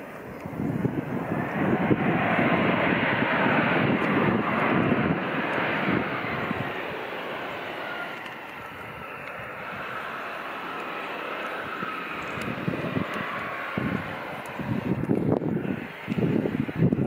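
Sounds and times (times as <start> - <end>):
gusty wind rumble on microphone: 0.0 - 17.0
jet engines rushing with faint whine: 0.0 - 17.0.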